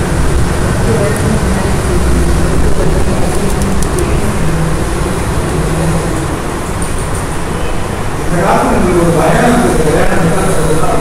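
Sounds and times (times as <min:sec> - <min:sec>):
background rumble with hiss: 0:00.0 - 0:11.0.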